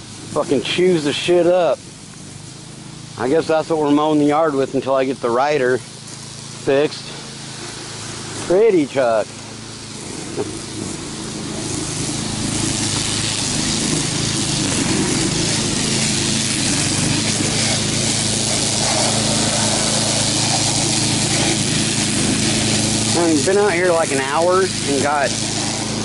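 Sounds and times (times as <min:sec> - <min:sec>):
brush mower engine cutting grass: 0:00.0 - 0:26.0.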